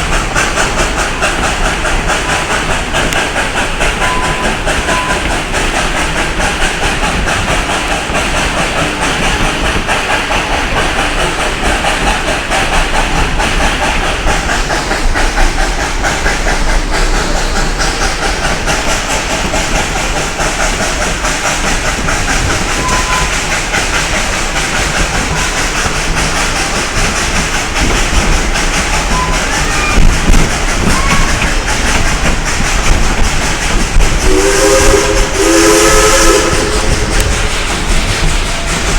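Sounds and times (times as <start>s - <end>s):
hiss of steam: 0.0s - 38.9s
train wheels clattering over rails: 0.0s - 38.9s.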